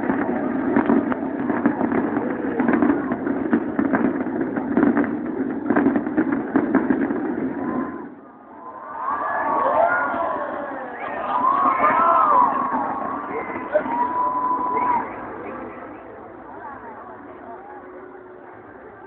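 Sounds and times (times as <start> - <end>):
fireworks bangs and crackles: 0.0 - 8.6, 9.5 - 19.0
crowd murmur: 0.0 - 19.0.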